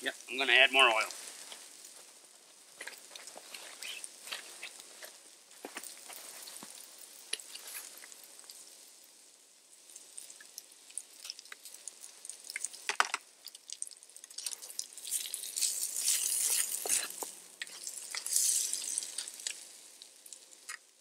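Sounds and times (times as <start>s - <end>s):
potatoes sizzling in a pan: 0.0s - 21.0s
utensil stirring in a pan: 1.0s - 21.0s.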